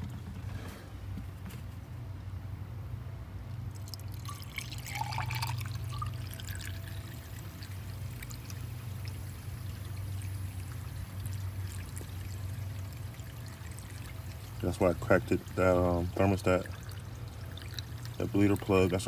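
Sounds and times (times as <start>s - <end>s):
steady low hum: 0.0s - 19.0s
liquid pouring and gurgling: 3.6s - 19.0s.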